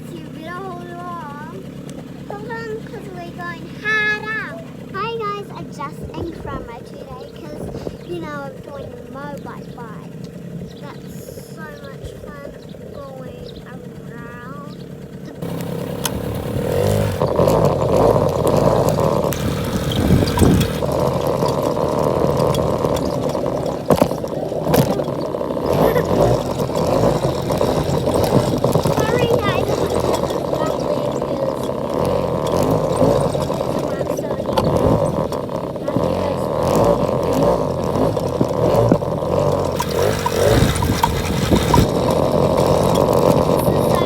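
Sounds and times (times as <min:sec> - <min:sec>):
quad two-stroke engine running: 0:00.0 - 0:44.0.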